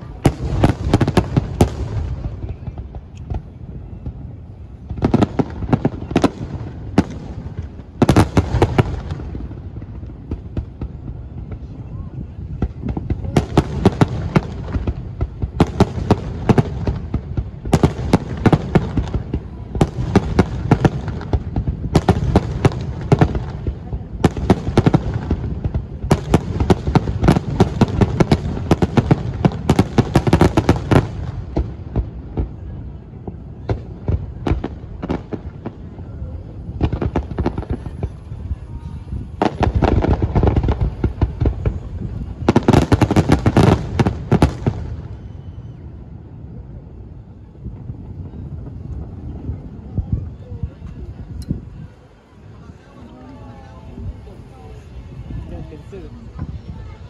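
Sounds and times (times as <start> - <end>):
deep fireworks booms: 0.0 - 57.0
fireworks cracks and bangs: 0.0 - 57.0.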